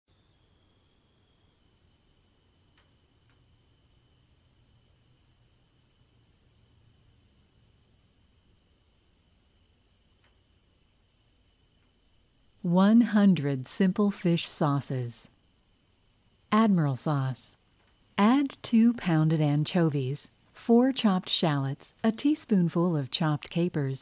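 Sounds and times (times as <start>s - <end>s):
faint crickets chirping: 0.1s - 24.0s.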